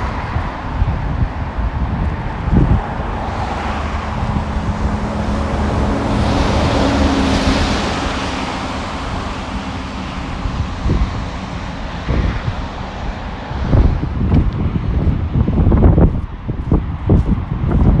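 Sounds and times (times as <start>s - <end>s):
vehicle passing on wet road: 0.0s - 15.8s
road traffic: 0.0s - 18.0s
wind buffeting microphone: 0.0s - 18.0s.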